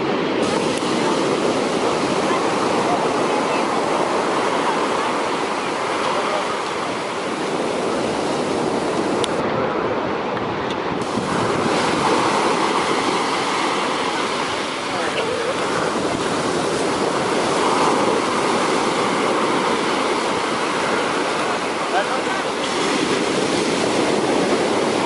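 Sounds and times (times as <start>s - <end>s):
sea surf breaking: 0.0s - 25.0s
wind on microphone: 0.0s - 25.0s.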